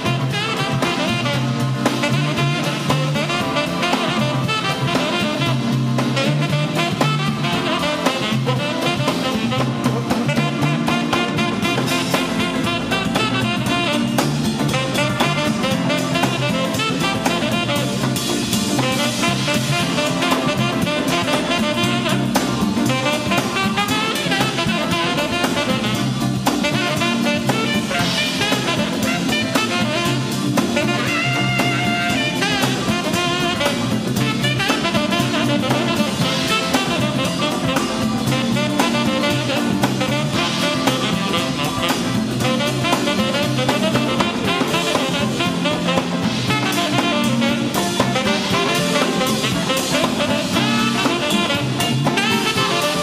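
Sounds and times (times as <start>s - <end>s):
alto saxophone: 0.0s - 53.0s
drum kit: 0.0s - 53.0s
electric bass: 0.0s - 53.0s
electric guitar: 0.0s - 53.0s.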